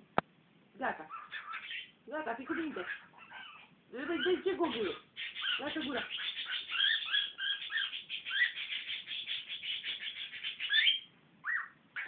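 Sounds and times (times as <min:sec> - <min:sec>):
cockatiel chattering: 0:01.1 - 0:12.0.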